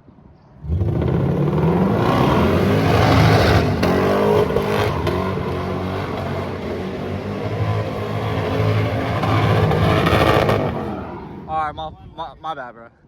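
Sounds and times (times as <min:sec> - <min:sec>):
car engine revving hard: 0:00.6 - 0:11.5.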